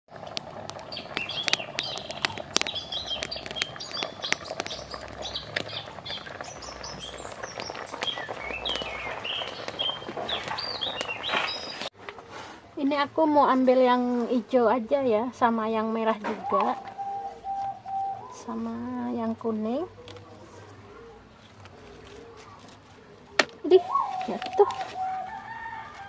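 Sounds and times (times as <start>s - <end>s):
birds chirping: 0.1s - 12.3s, 15.0s - 25.8s
firewood crackling and popping: 0.1s - 12.4s, 15.4s - 26.0s.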